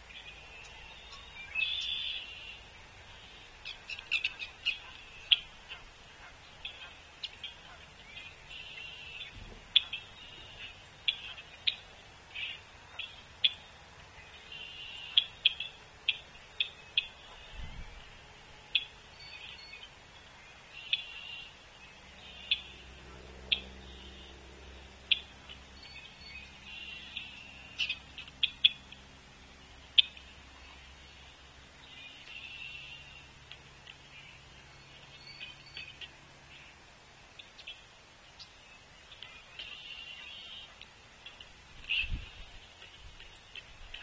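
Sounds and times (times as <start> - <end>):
low steady hum: 0.0 - 44.0
songbirds calling: 0.0 - 44.0.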